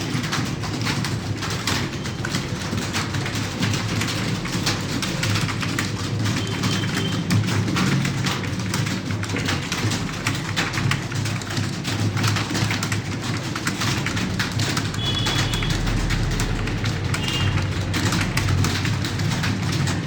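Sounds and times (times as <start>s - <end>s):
rapid keyboard typing: 0.0s - 20.0s.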